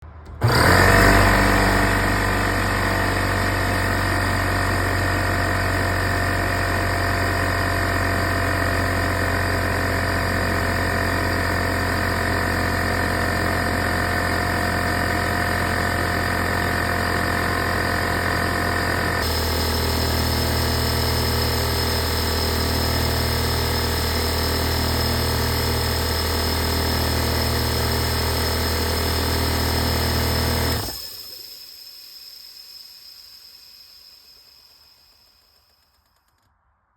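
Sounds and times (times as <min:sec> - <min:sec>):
air compressor running: 0:00.2 - 0:35.8.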